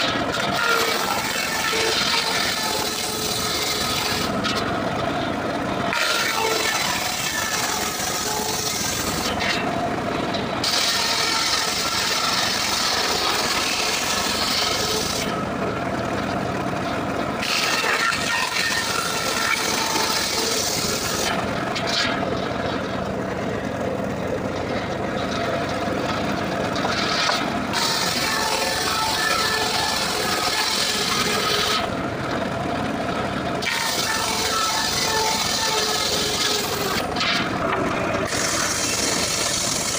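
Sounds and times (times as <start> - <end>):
circular saw ripping wood: 0.0 - 4.7, 5.9 - 9.8, 10.4 - 15.5, 17.3 - 23.2, 24.9 - 32.0, 33.5 - 39.9.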